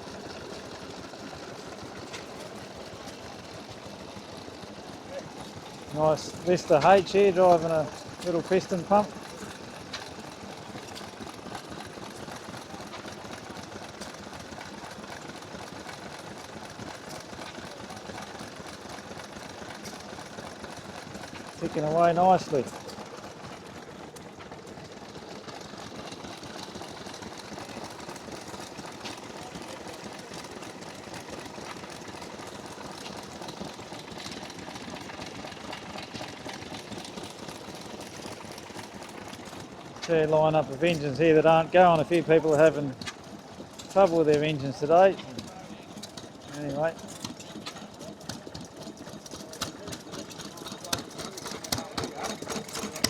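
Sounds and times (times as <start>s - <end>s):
stationary engine ticking: 0.0s - 53.0s.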